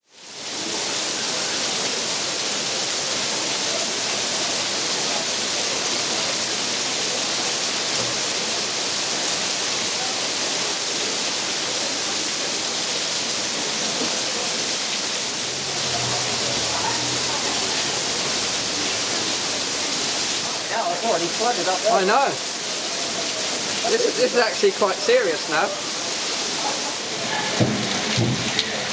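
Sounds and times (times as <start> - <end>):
torrential rain pouring: 0.0 - 28.9.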